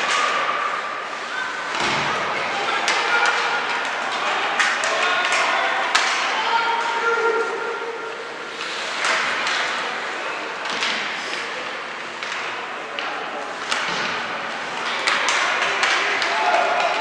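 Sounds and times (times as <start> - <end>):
crowd chatter echoing: 0.0 - 17.0.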